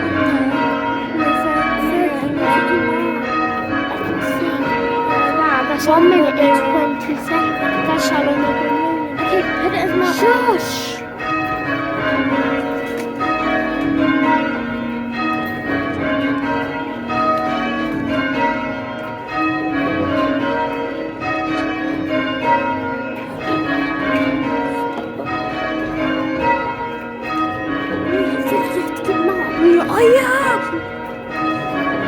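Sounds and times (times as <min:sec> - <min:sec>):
church bells change ringing: 0:00.0 - 0:32.0.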